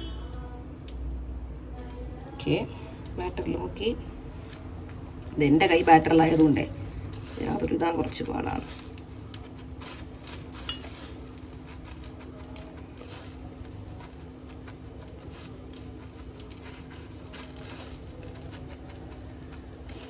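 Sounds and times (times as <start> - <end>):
steady low hum: 0.0 - 20.0
bread rustling in breadcrumbs: 3.6 - 20.0.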